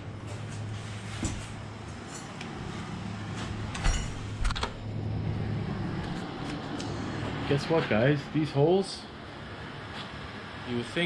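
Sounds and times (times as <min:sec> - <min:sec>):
low equipment hum: 0:00.0 - 0:11.0.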